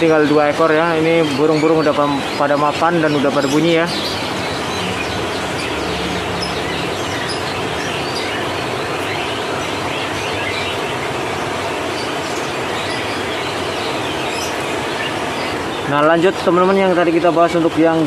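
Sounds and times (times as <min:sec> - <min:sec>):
caged songbirds chirping: 0:00.0 - 0:18.0.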